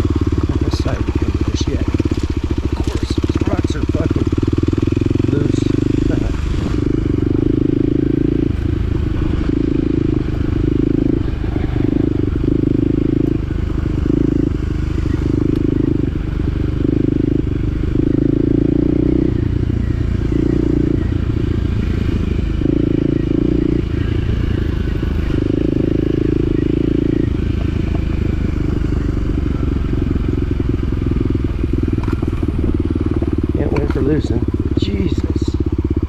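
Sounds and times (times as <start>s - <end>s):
off-road vehicle engine droning: 0.0s - 36.0s
steady low rumble: 0.0s - 36.0s.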